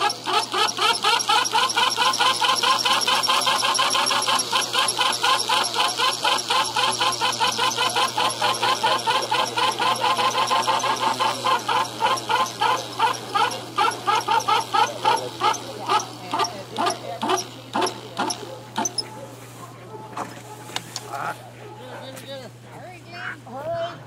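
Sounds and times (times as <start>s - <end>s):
pulley squeaking: 0.0s - 19.3s.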